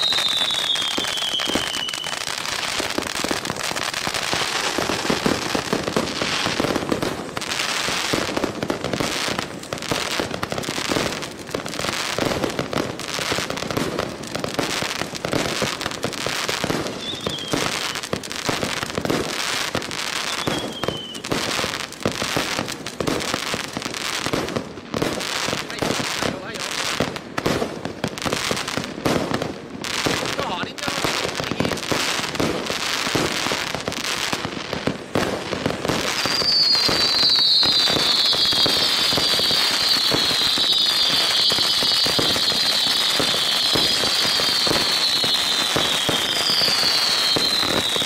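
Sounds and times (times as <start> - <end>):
falling firework whistle: 0.0 - 23.1, 31.1 - 48.0
crackling pops: 0.0 - 48.0
firework spraying sparks hissing: 0.0 - 48.0.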